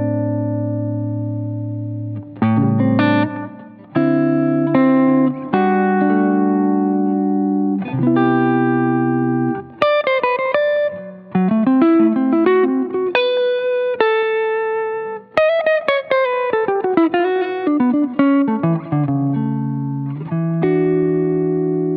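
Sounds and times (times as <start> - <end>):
clean electric guitar with delay: 0.0 - 21.9.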